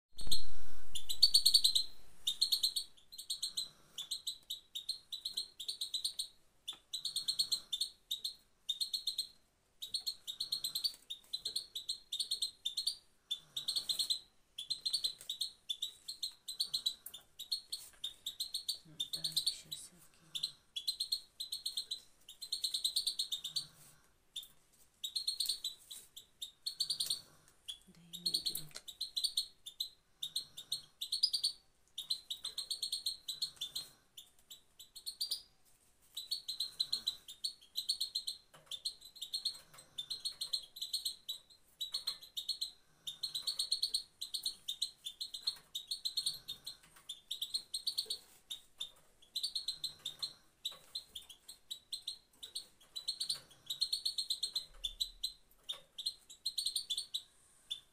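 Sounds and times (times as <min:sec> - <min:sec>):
rapid high bird chirping: 0:00.2 - 0:57.9.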